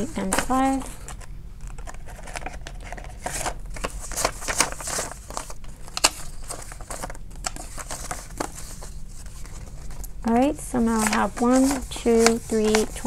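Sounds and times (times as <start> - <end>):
paper bills rustling: 0.0 - 13.0
plastic envelope crinkling: 0.0 - 13.0.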